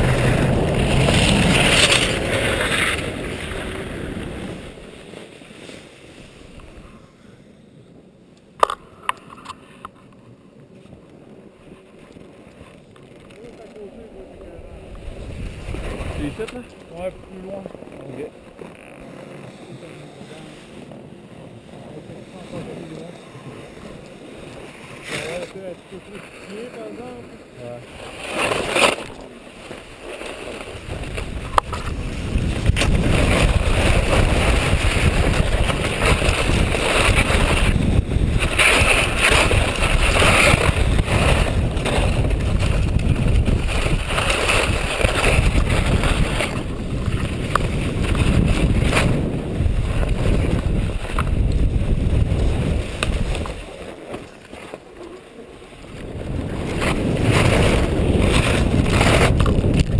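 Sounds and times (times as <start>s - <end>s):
skis scraping on packed snow: 0.0s - 7.2s, 9.6s - 59.9s
wind rushing over microphone: 0.0s - 53.9s, 55.4s - 59.9s.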